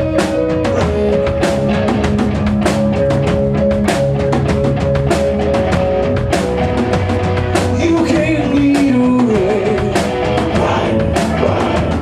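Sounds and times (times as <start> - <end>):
drum kit beating: 0.0 - 12.0
live rock band playing: 0.0 - 12.0.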